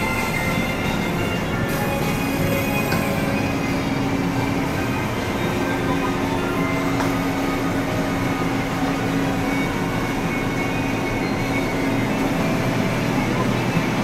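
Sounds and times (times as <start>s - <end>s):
ferry engine drone: 0.0s - 14.0s.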